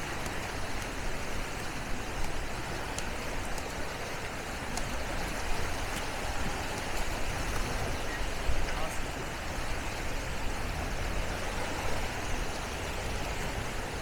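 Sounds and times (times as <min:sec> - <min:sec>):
small waves washing onto sand: 0:00.0 - 0:14.0.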